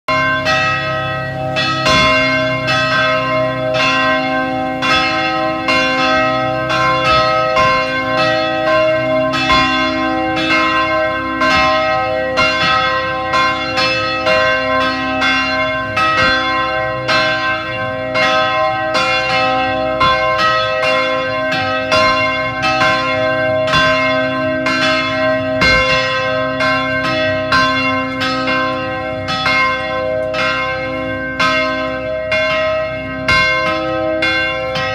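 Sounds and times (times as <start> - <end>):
carillon bells ringing: 0.1 - 34.9.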